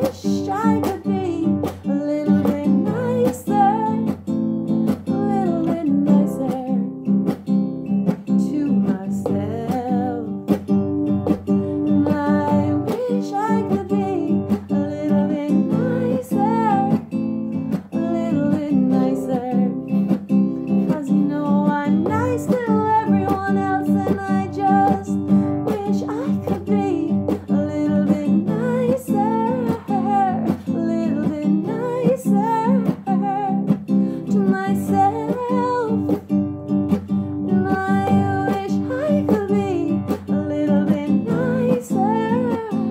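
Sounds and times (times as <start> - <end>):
acoustic guitar strumming: 0.0 - 42.9
woman singing: 0.0 - 42.9.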